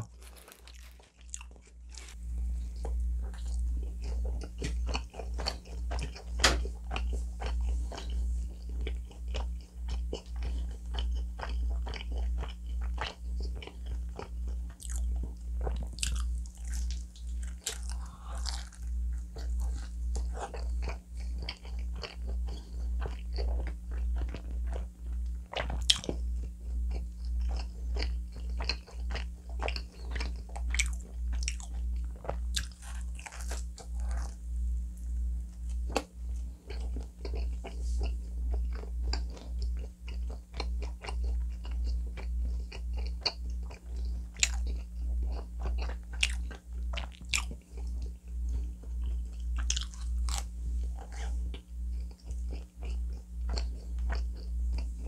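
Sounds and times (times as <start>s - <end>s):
chewing pizza with crunches: 0.0s - 55.0s.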